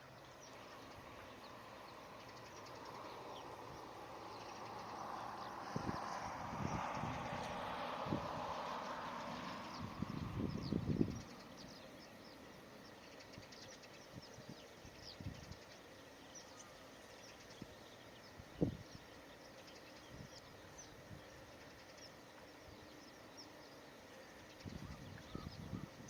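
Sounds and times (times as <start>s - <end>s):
distant small birds calling: 0.0s - 26.0s.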